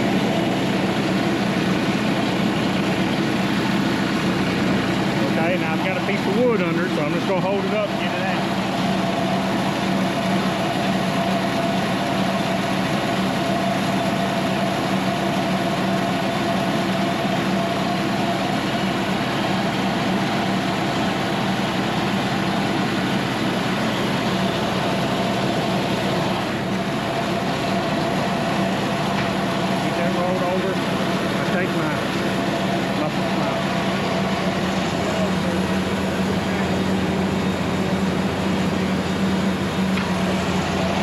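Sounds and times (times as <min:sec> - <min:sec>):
diesel engine humming: 0:00.0 - 0:41.0.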